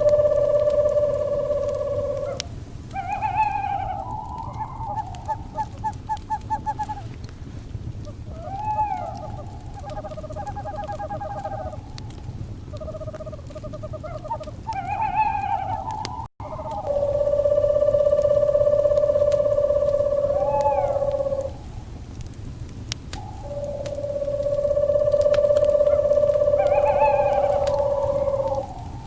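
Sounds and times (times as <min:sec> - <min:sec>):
owl calls: 0:00.0 - 0:07.2, 0:08.0 - 0:21.8, 0:23.2 - 0:29.0
crackling fire: 0:00.0 - 0:29.0.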